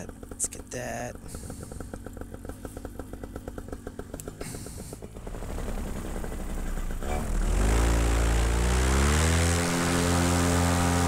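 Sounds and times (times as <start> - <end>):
engine revving with propeller: 0.0 - 11.0
paramotor engine idling: 0.0 - 11.0.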